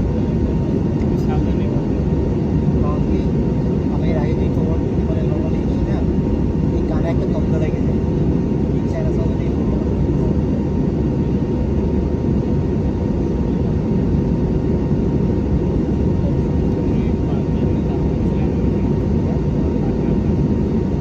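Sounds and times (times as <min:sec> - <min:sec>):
faint steady whine: 0:00.0 - 0:21.0
jet engine rumble: 0:00.0 - 0:21.0.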